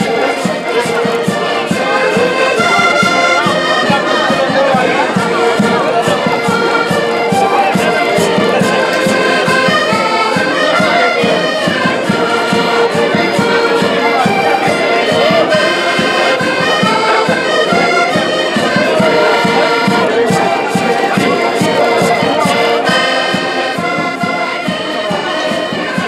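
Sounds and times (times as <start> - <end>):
accordion ensemble playing folk music: 0.0 - 26.0.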